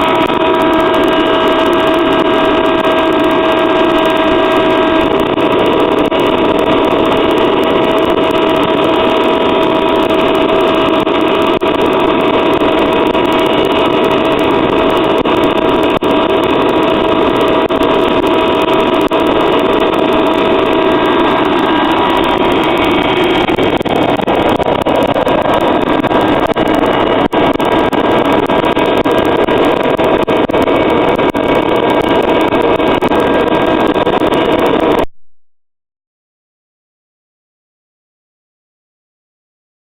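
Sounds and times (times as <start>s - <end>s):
oil burner roaring steadily: 0.0s - 35.1s.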